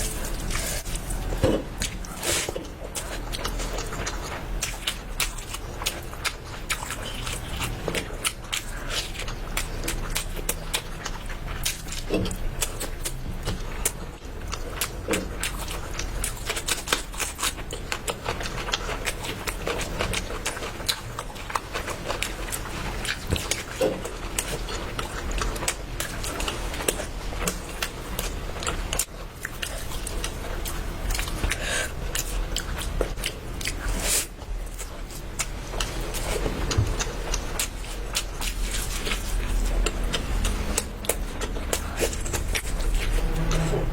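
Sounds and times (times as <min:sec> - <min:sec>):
biting and chewing food: 0:00.0 - 0:43.9.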